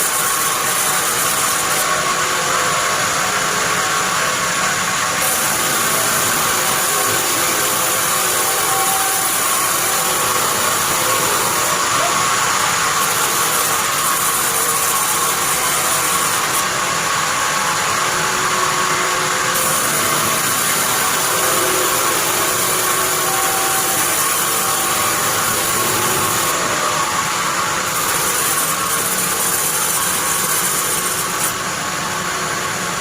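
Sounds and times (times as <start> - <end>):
bandsaw running: 0.0 - 33.0.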